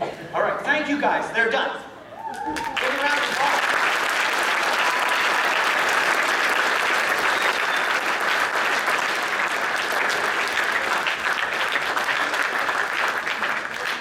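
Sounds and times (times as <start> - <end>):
audience applauding: 2.3 - 14.0.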